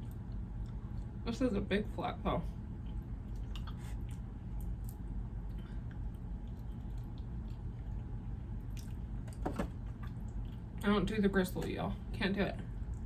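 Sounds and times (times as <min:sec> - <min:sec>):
chewing and wet mouth sounds: 0:00.0 - 0:01.2, 0:02.5 - 0:11.8, 0:12.6 - 0:13.0
steady low hum: 0:00.0 - 0:13.0.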